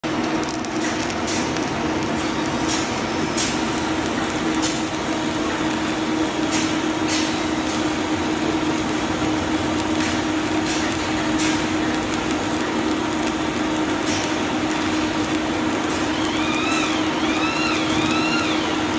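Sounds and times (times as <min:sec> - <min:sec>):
arc welding crackling hiss: 0:00.0 - 0:18.9.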